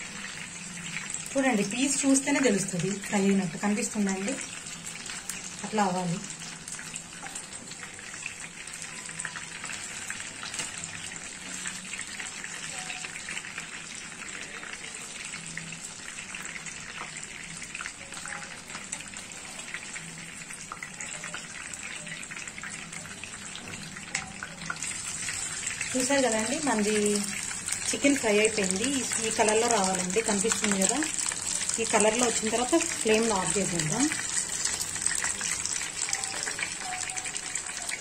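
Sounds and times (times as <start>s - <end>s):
chicken sizzling in hot oil: 0.0s - 38.0s.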